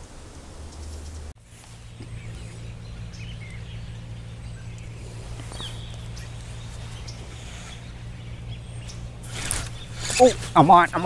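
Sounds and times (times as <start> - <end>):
steady low hum: 0.0 - 11.0
faint bird chirps: 0.6 - 10.6.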